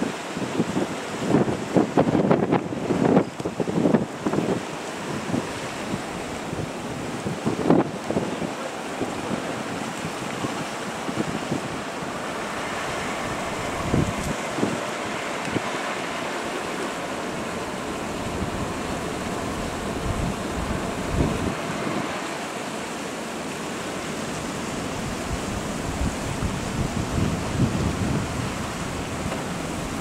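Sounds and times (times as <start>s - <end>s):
wind buffeting microphone: 0.0s - 22.4s, 24.2s - 30.0s
steady rushing noise: 0.0s - 30.0s.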